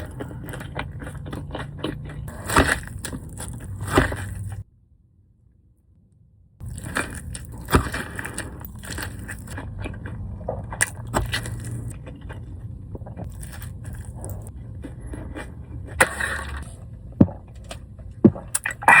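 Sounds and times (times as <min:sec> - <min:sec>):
chewing and biting burger: 0:00.0 - 0:04.6, 0:06.6 - 0:19.0.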